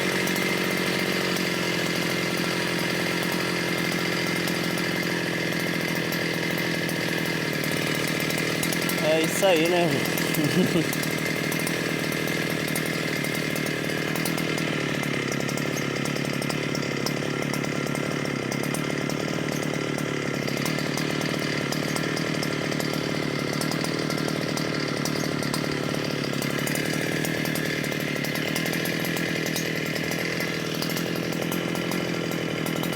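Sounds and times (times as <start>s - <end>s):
brushcutter engine running: 0.0s - 32.9s.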